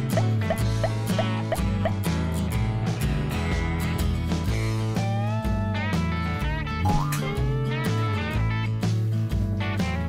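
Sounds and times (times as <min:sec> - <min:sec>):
bass line: 0:00.0 - 0:10.0
country-blues guitar music: 0:00.0 - 0:10.0.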